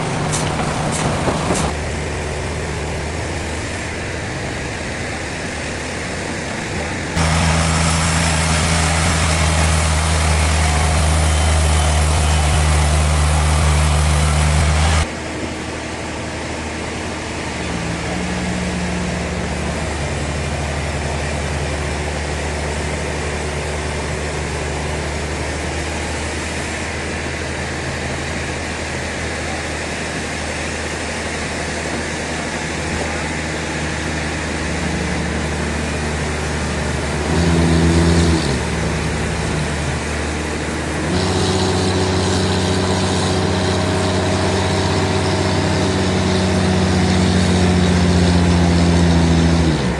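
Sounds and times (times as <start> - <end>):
engine low hum: 0.0 - 49.9
sawmill machinery running: 0.0 - 49.9.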